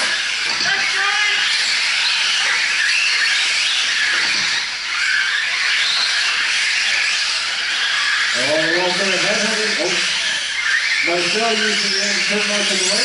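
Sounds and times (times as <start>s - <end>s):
rc trucks motor whine: 0.0s - 13.0s.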